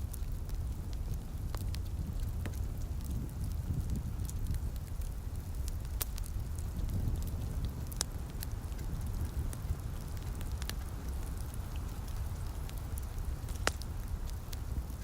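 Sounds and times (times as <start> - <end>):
light rain hiss: 0.0 - 15.0
sharp pops from fire: 0.0 - 15.0
wood fire crackling: 0.0 - 15.0.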